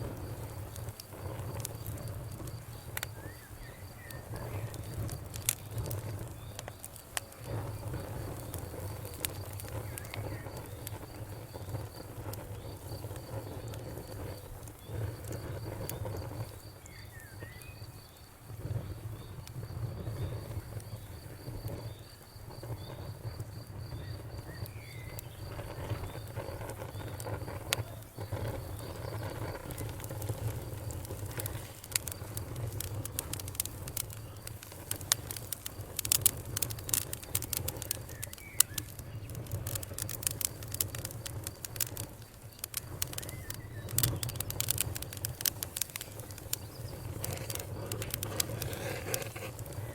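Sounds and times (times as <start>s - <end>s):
fire pops and snaps: 0.0s - 49.9s
low rumble of flames: 0.0s - 49.9s
wood fire crackling: 0.0s - 49.9s
insect chirping: 0.1s - 49.9s.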